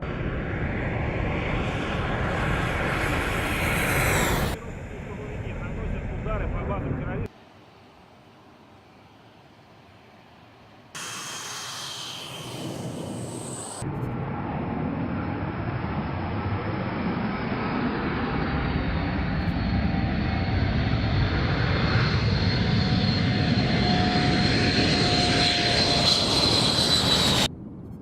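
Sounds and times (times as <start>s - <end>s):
jet engines roaring with whine: 0.0s - 28.0s.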